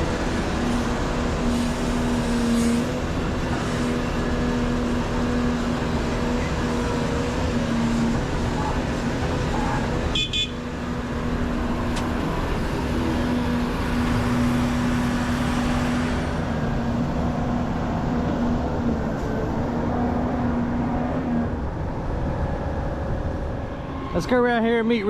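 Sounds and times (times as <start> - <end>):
heavy machinery diesel engine: 0.0 - 25.0.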